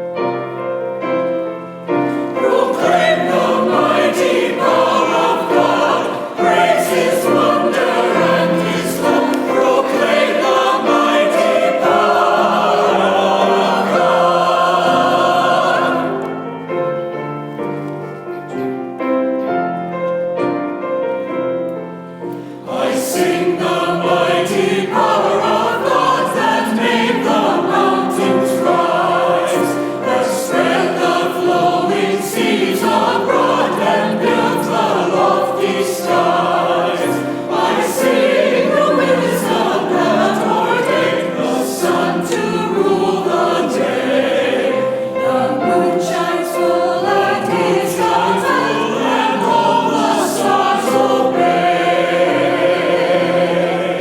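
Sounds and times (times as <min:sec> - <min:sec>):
choir singing: 0:00.0 - 0:20.0, 0:22.1 - 0:54.0.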